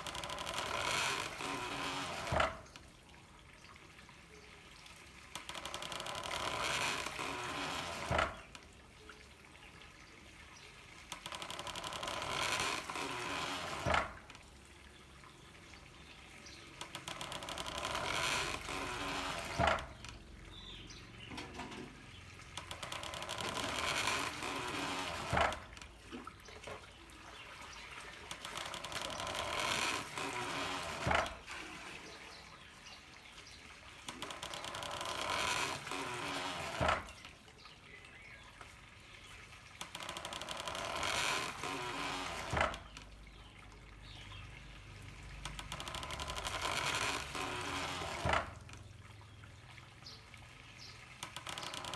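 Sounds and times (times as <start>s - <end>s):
running water splashing: 0.0s - 51.9s.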